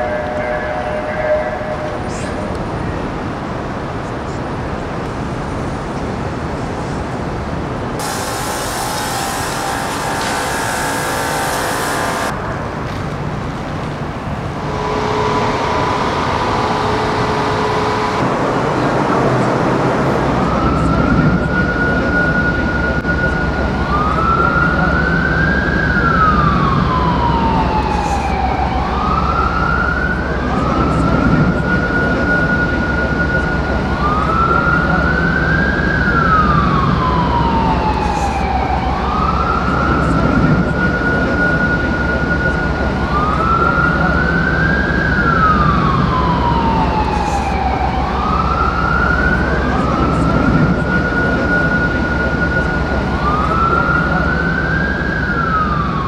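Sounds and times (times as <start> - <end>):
siren wailing: 8.0 - 13.2, 14.5 - 18.6, 20.2 - 56.0.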